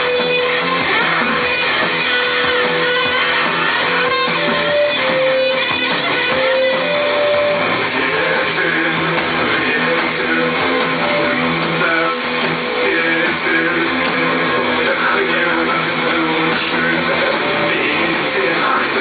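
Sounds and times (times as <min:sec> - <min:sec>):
electric guitar sustained lead notes: 0:00.0 - 0:19.0
live rock band playing: 0:00.0 - 0:19.0.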